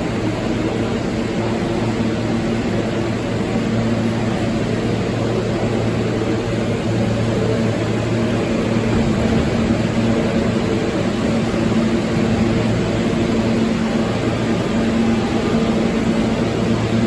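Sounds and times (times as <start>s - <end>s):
constant low hum: 0.0s - 17.0s
subway train running: 0.0s - 17.0s.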